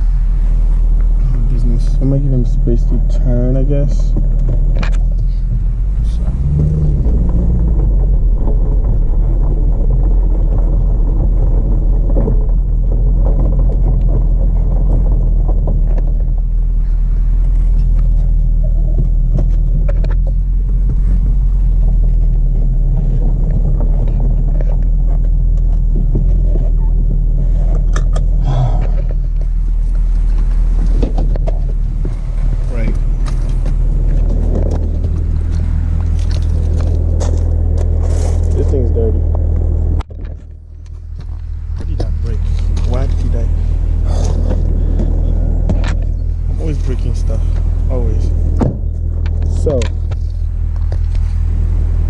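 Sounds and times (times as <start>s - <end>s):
car engine deep rumble: 0.0s - 52.0s.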